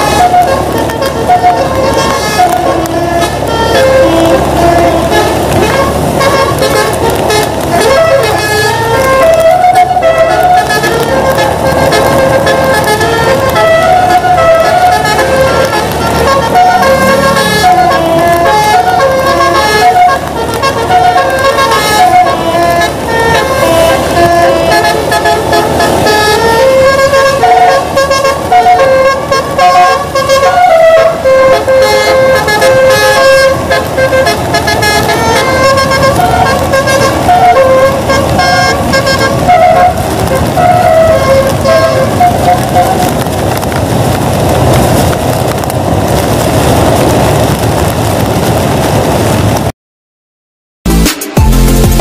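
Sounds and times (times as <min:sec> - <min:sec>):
musical air horn tune: 0:00.0 - 0:43.3.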